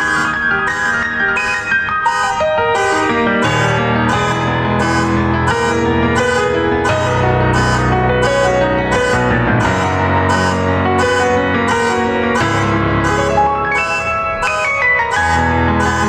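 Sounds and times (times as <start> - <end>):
solo piano on keyboard: 0.0 - 16.0.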